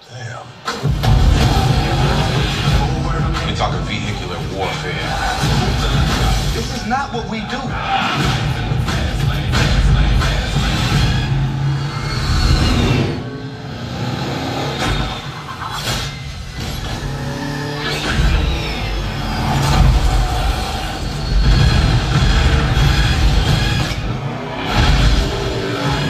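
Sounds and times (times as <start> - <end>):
car engines revving: 0.6 - 26.0
loud trailer music: 0.6 - 26.0
sharp hits: 0.6 - 26.0.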